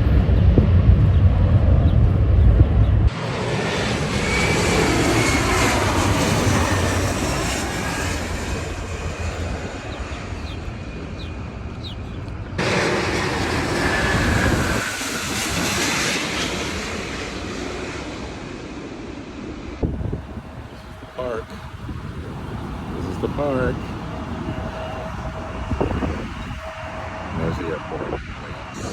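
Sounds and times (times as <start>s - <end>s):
jet airliner passing overhead: 0.0s - 28.9s.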